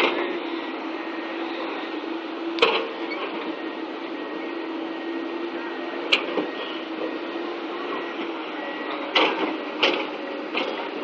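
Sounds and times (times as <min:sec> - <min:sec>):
excavator engine whirring: 0:00.0 - 0:11.0.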